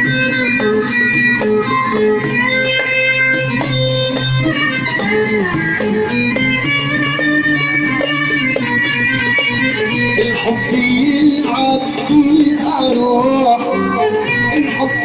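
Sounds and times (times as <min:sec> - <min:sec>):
steady percussion beat: 0:00.0 - 0:12.8
plucked-string melody: 0:00.0 - 0:15.0.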